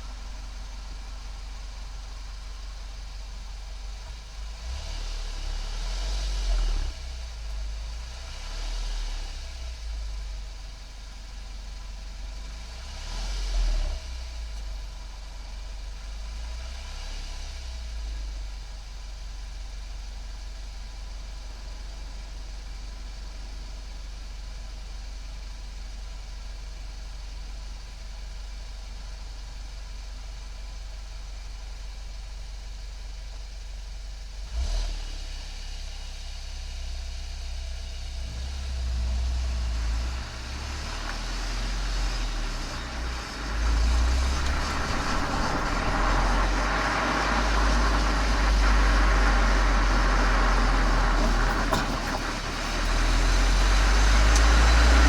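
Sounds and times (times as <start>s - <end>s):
car engine idling: 0.0s - 13.0s, 14.0s - 55.0s.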